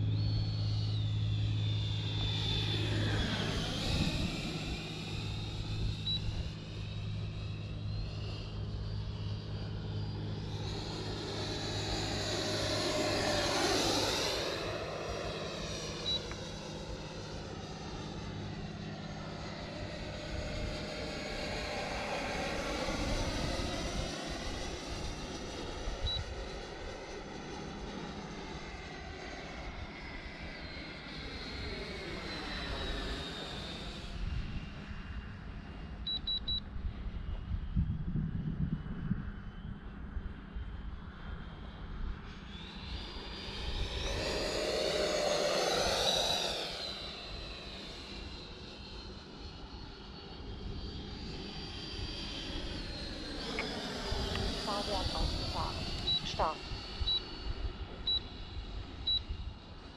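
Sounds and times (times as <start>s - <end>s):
model jet fan whining overhead: 0.0s - 59.9s.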